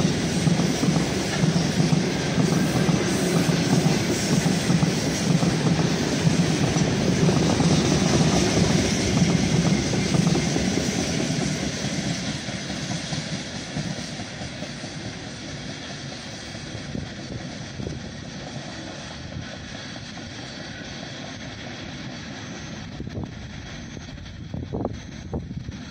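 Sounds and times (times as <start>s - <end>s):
freight train wheels on rails: 0.0s - 25.9s.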